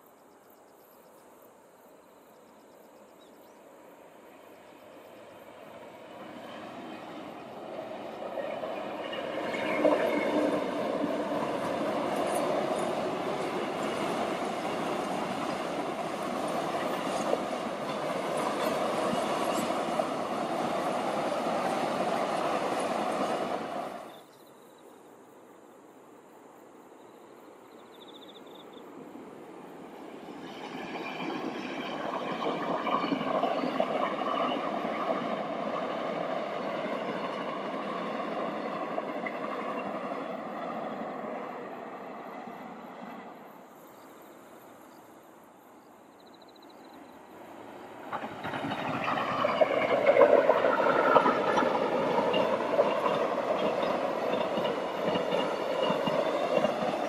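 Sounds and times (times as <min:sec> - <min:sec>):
second train approaching: 0:02.2 - 0:24.3, 0:27.3 - 0:57.0
train rumbling on rails: 0:02.4 - 0:24.3, 0:28.7 - 0:44.9, 0:46.8 - 0:57.0.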